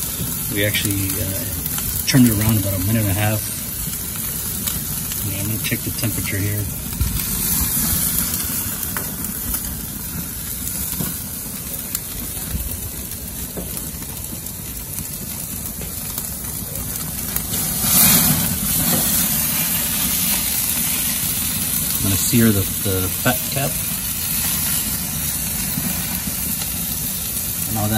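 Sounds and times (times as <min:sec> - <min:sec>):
low rumble of gas flames: 0:00.0 - 0:27.9
meat fat sizzling: 0:00.0 - 0:27.9.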